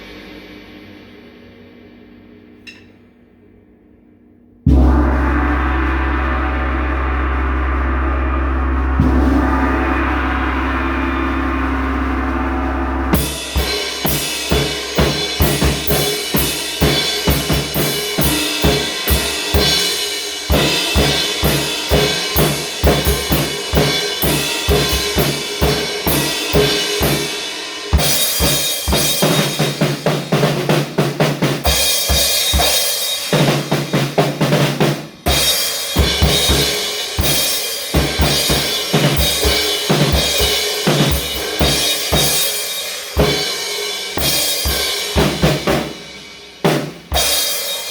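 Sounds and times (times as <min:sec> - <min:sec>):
drum beat with sustained tones: 0:00.0 - 0:02.9, 0:04.7 - 0:47.9.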